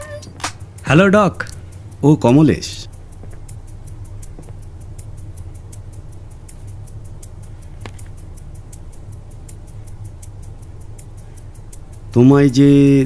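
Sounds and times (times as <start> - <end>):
fast ticking beat: 0.0 - 13.0
low bass drone: 0.0 - 13.0.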